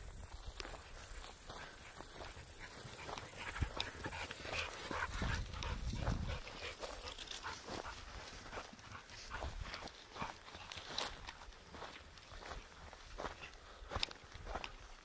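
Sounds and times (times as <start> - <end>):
footsteps through tall grass: 0.0 - 15.0.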